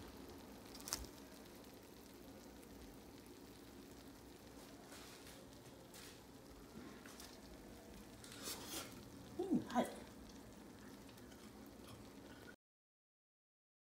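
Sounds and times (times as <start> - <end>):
faint sizzling: 0.0 - 12.6.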